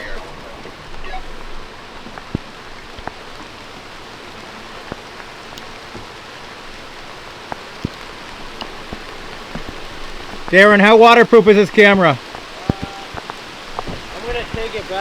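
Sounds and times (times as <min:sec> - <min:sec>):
steady rain falling: 0:00.0 - 0:15.0
water drops ticking: 0:00.0 - 0:15.0.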